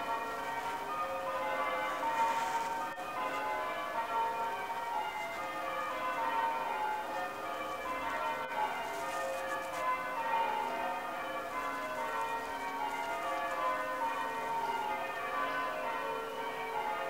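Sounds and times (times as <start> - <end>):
bells ringing in a peal: 0.0 - 17.0.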